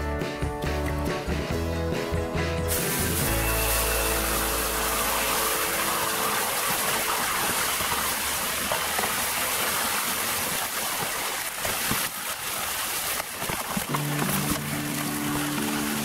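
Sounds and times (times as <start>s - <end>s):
liquid nitrogen boiling hiss: 2.7s - 16.0s.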